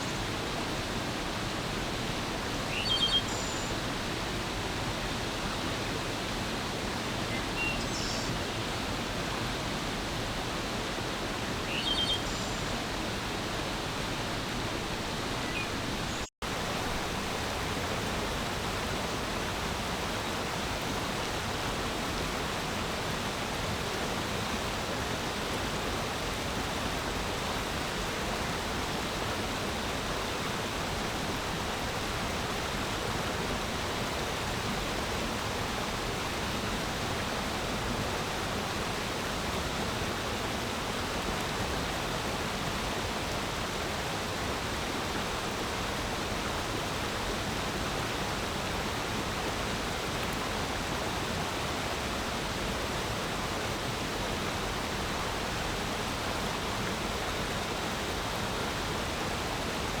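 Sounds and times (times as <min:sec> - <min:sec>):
stream flowing: 0:00.0 - 1:00.0.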